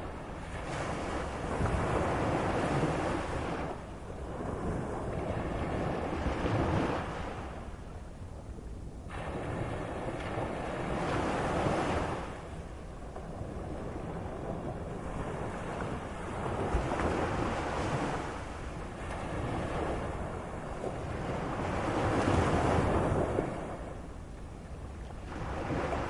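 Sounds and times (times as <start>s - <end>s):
waves washing in and drawing back: 0.0s - 26.0s.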